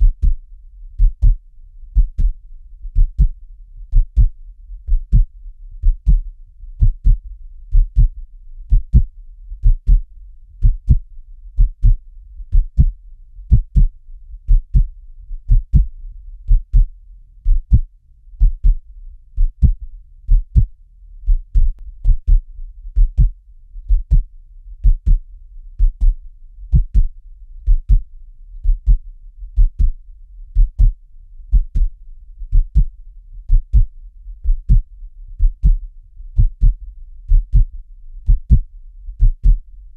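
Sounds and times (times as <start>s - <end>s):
heartbeat thumps: 0.0s - 1.4s, 2.0s - 29.0s, 29.6s - 35.8s, 36.4s - 39.7s.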